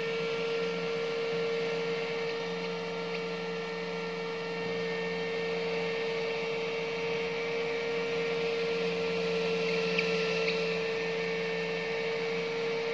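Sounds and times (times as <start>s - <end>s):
electrical hum with hiss: 0.0s - 12.9s.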